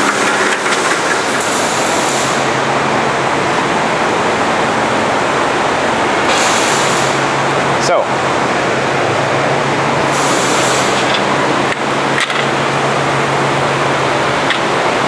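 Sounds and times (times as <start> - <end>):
low motor hum: 2.6 - 15.0.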